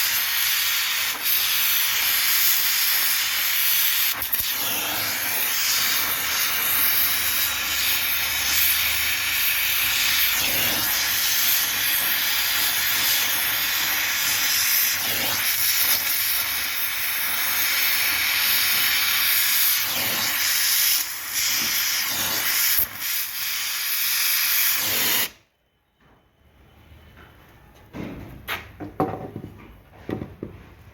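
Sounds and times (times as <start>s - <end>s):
gas welding torch hissing: 0.0s - 25.4s.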